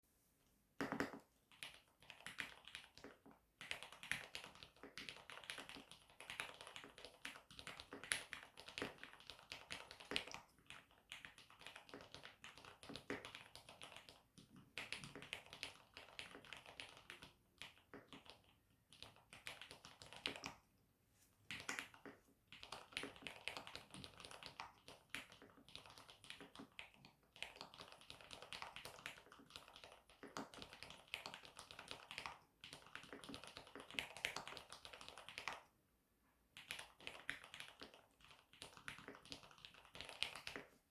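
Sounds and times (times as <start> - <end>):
mechanical keyboard typing: 0.8 - 20.5, 21.6 - 35.6, 36.6 - 40.7.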